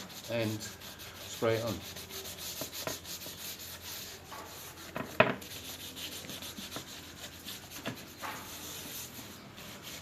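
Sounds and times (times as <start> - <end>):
cloth rubbing over dried paint: 0.0 - 10.0.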